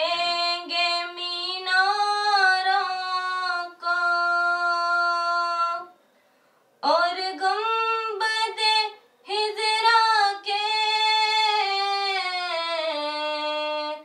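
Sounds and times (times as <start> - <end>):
woman singing unaccompanied: 0.0 - 6.0, 6.8 - 14.0.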